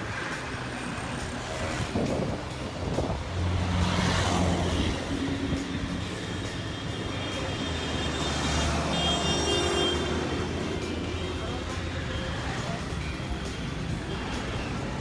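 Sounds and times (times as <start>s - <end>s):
road traffic rush: 0.0s - 15.0s
vehicle engine humming: 0.0s - 15.0s.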